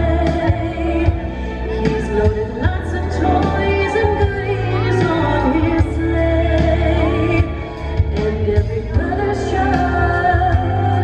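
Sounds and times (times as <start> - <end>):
singing over strong bass: 0.0 - 11.0.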